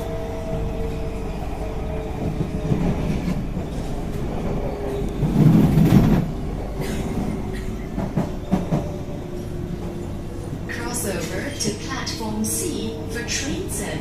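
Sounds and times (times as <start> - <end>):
low train rumble: 0.0 - 14.0.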